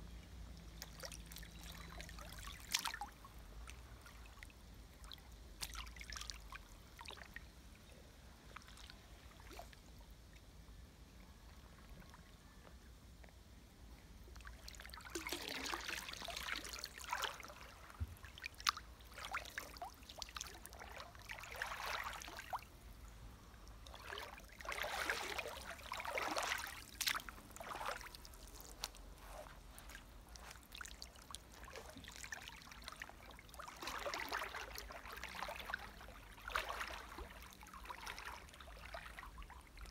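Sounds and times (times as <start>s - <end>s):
person wading through water: 0.7s - 7.4s, 14.3s - 39.9s.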